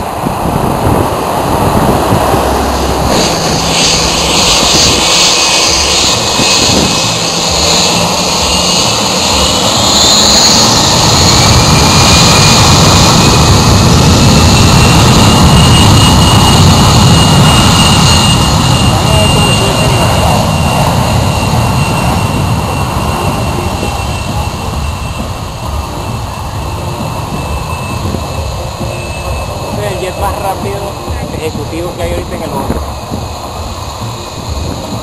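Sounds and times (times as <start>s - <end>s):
jet engines whining: 0.0s - 35.0s.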